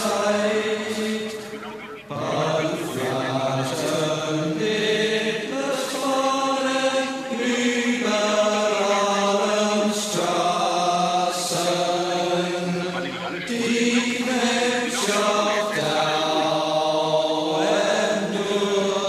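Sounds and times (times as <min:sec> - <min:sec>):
vocal chanting: 0:00.0 - 0:19.0.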